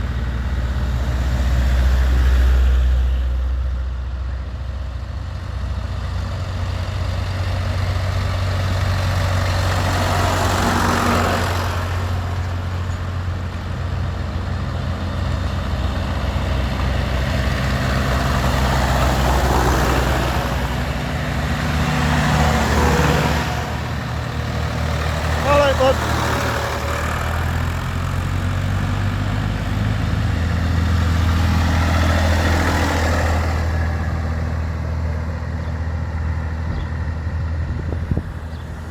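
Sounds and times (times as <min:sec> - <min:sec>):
tractor engines throbbing: 0:00.0 - 0:38.9.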